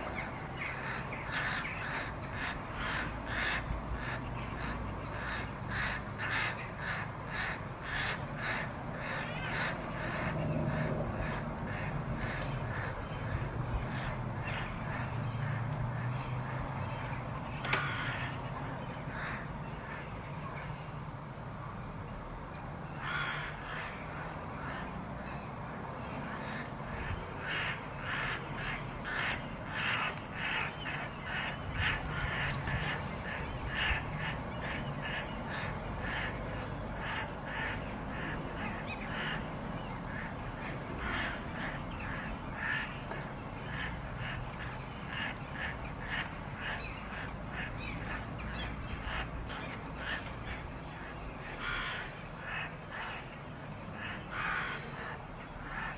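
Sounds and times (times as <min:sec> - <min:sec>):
steady background noise: 0:00.0 - 0:55.9.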